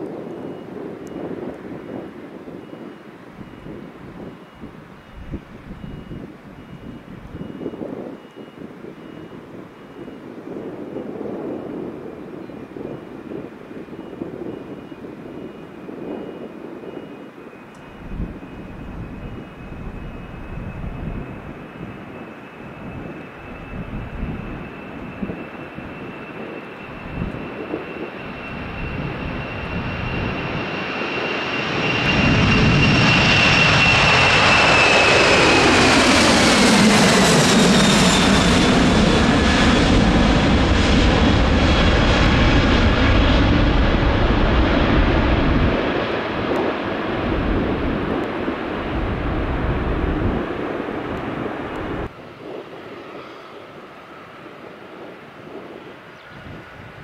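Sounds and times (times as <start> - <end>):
jet engines at takeoff: 0.0 - 57.0.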